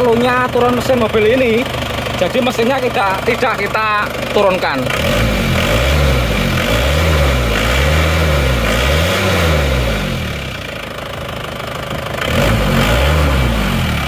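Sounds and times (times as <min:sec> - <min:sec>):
diesel engine revving and idling: 0:00.0 - 0:14.0.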